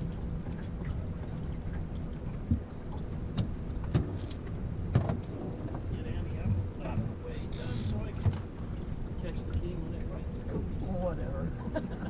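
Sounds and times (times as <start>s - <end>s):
outboard motor rumbling: 0.0s - 12.0s.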